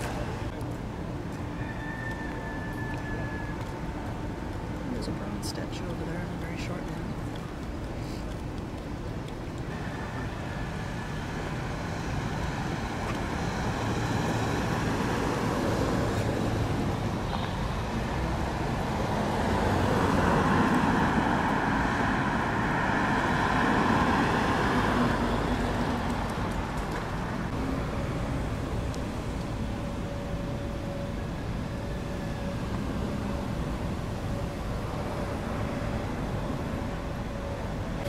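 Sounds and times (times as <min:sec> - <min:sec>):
cars driving along street: 0:00.0 - 0:38.0.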